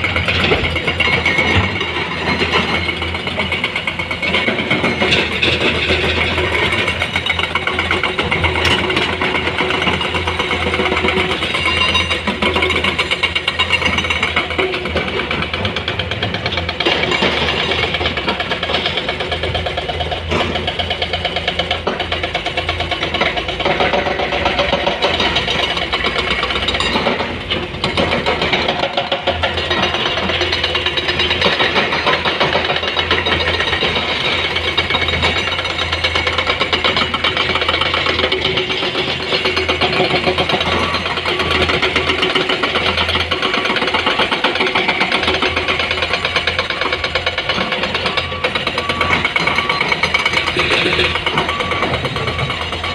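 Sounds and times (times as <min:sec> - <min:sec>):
excavator diesel engine clattering: 0:00.0 - 0:52.9.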